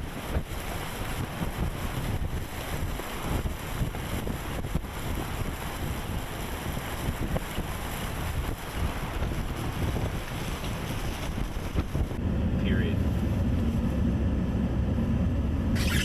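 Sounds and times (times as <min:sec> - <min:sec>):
blizzard wind buffeting microphone: 0:00.0 - 0:16.0.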